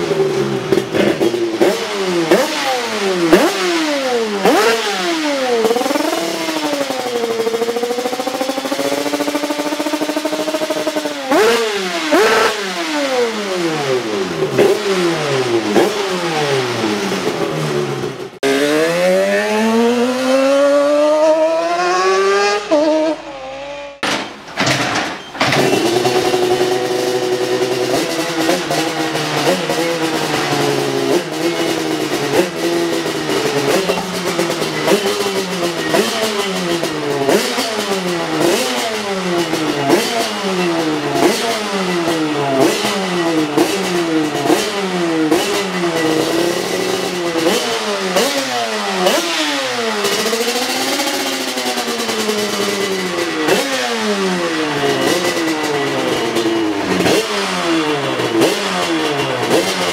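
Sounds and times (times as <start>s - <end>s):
two-stroke engine revving: 0.0s - 24.1s, 25.4s - 59.9s.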